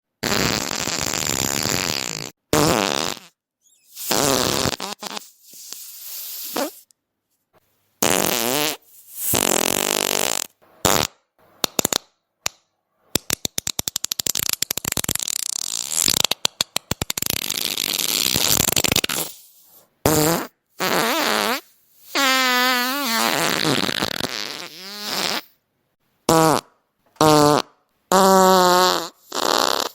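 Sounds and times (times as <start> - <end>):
fart sound effects: 0.2 - 6.8, 8.0 - 11.2, 14.1 - 25.6, 26.3 - 29.9.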